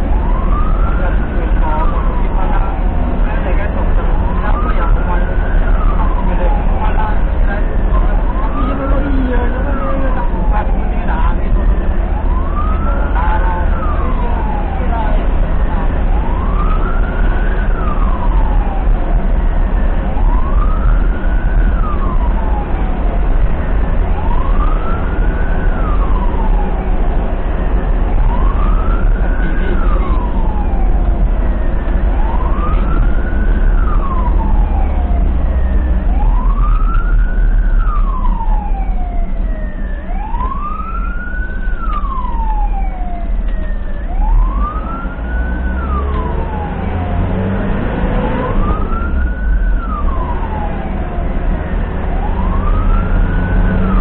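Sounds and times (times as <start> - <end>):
ambulance siren wailing: 0.0 - 54.0
engine and road rumble: 0.0 - 54.0.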